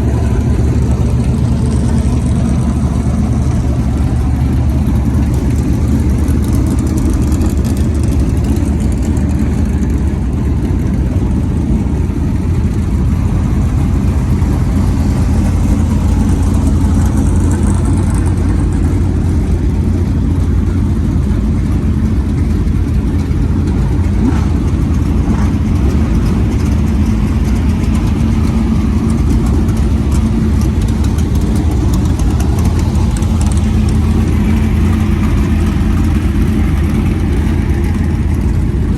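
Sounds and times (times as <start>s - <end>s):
race car engines running: 0.0s - 38.9s.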